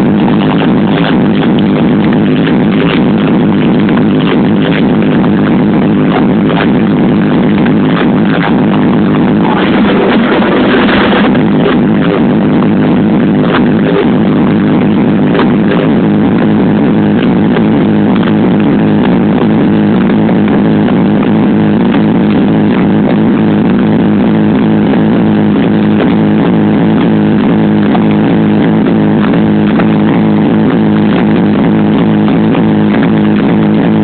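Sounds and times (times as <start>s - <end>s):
low synth drone: 0.0s - 34.0s.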